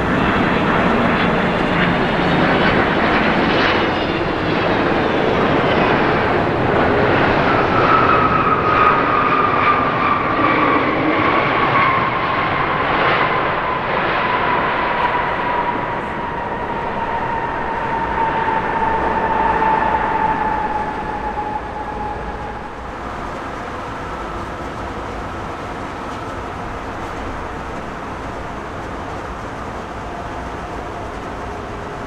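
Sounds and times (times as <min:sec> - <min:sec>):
descending whine: 0:00.0 - 0:32.0
jet engines rushing: 0:00.0 - 0:32.0.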